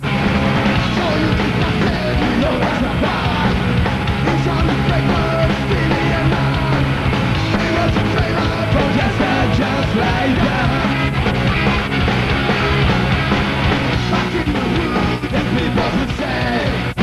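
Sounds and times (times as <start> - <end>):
punk rock band playing live: 0.0 - 17.0.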